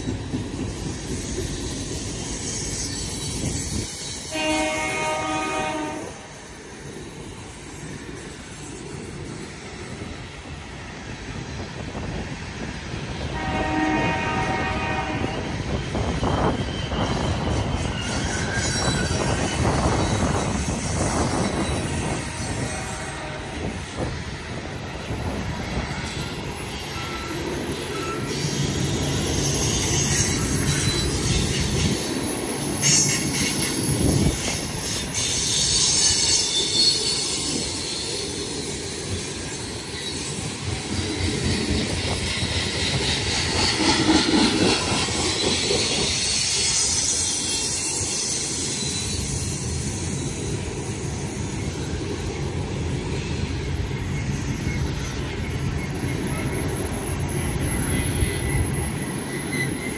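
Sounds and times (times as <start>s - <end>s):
train wheels rumbling over rails: 0.0s - 59.9s
high wheel screeches: 0.7s - 10.0s, 13.7s - 24.2s, 24.9s - 59.9s.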